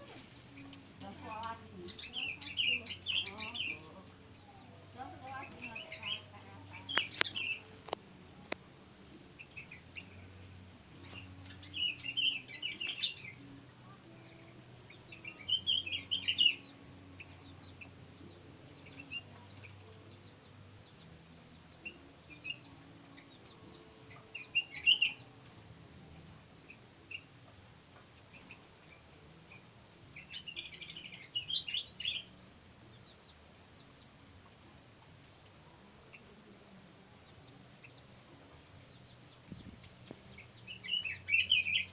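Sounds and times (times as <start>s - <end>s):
birds singing chirpy phrases: 0.1s - 7.7s, 11.0s - 25.5s, 28.2s - 34.4s, 35.6s - 41.9s.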